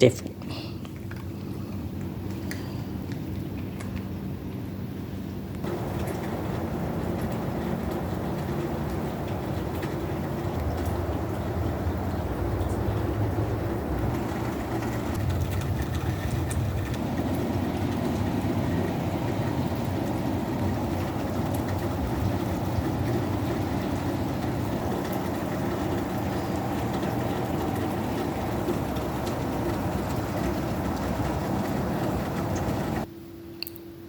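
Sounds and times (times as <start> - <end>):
steady low rumble: 0.0 - 33.1.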